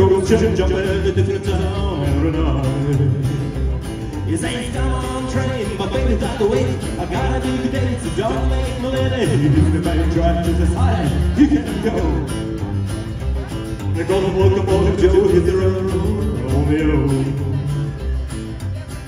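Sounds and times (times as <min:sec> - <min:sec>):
slapped upright bass: 0:00.0 - 0:19.0
strummed acoustic guitar: 0:00.0 - 0:19.0.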